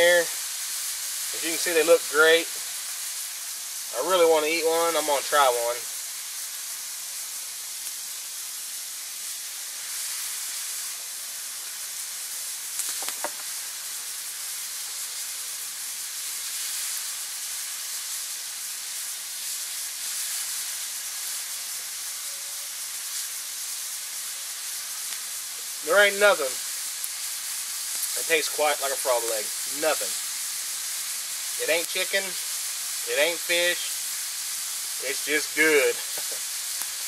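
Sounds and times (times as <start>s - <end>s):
hot oil sizzling in a pan: 0.0s - 37.0s.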